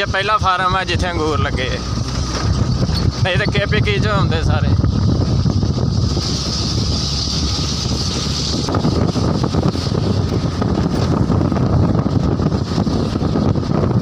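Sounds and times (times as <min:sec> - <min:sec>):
vehicle running rumble: 0:00.0 - 0:14.0
wind buffeting microphone: 0:00.0 - 0:14.0.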